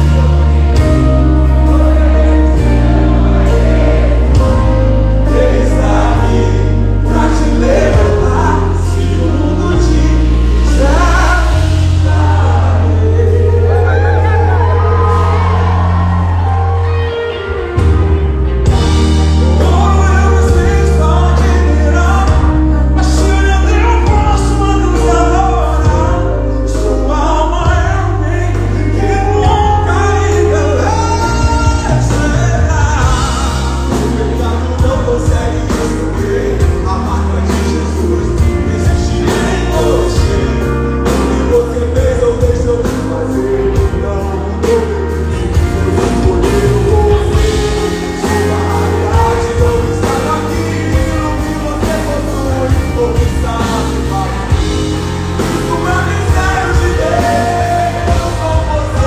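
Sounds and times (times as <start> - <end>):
men singing into a microphone: 0.0 - 16.1, 18.8 - 59.0
band with guitars bass and drums: 0.0 - 59.0.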